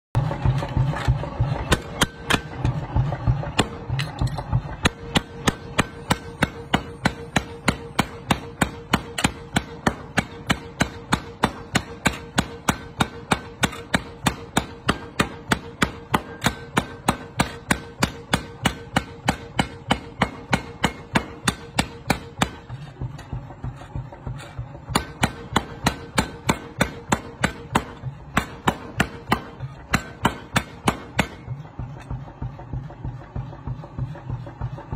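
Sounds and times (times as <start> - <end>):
power hammer striking steel: 0.2 - 32.2.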